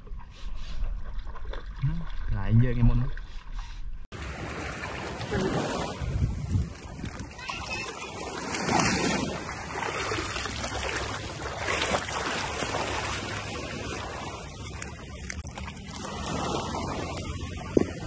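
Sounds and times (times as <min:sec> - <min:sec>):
water splashing and trickling: 0:00.6 - 0:18.0.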